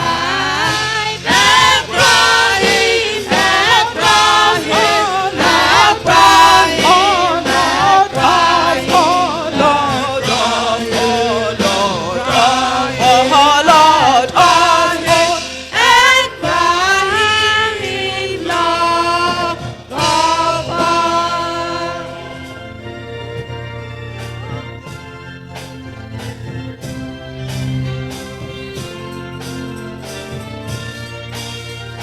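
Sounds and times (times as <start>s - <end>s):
congregation singing a hymn: 0.0s - 32.0s.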